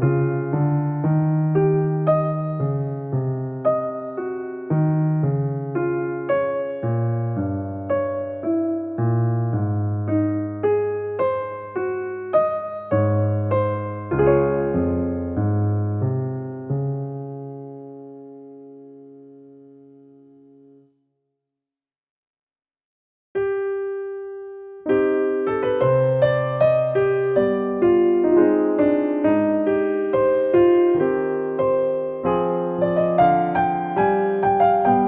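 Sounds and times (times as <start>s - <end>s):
gentle piano melody: 0.0s - 21.0s, 23.4s - 35.0s.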